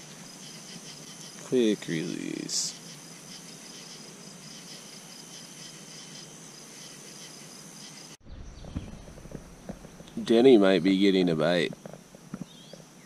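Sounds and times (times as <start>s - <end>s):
crickets chirping: 0.0s - 13.0s
steady hiss: 0.0s - 13.0s.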